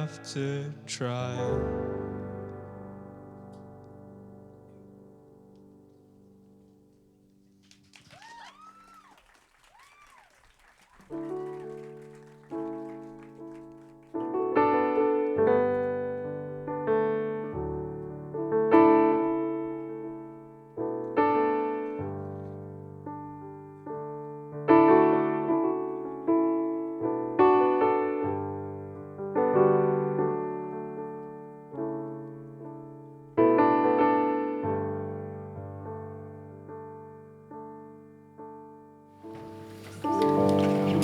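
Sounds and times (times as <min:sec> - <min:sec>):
slow piano chords: 0:00.0 - 0:07.9, 0:11.0 - 0:41.0.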